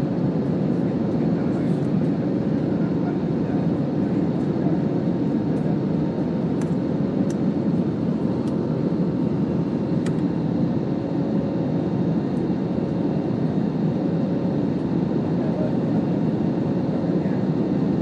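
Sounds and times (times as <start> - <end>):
airliner engines and airflow: 0.0 - 18.0.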